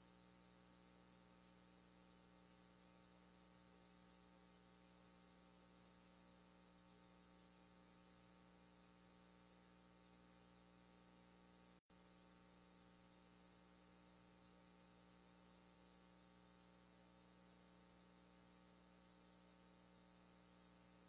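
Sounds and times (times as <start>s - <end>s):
faint electrical hum with hiss: 0.0s - 21.0s.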